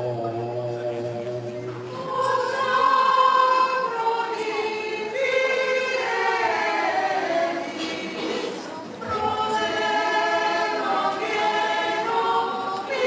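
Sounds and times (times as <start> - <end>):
voices singing a chant: 0.0 - 13.0.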